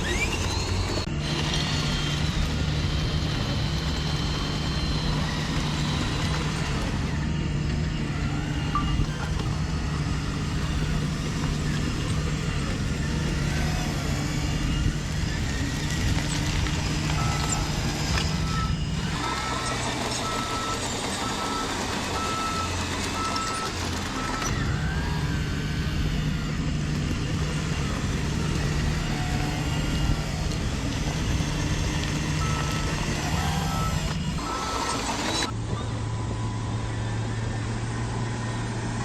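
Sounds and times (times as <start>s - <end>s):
reversing beeper: 0.0s - 38.5s
toy diesel engine sound: 0.0s - 39.0s.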